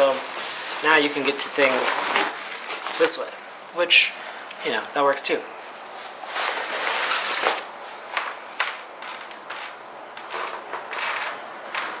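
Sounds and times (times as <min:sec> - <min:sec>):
nylon rustling: 0:00.0 - 0:03.5, 0:05.7 - 0:12.0.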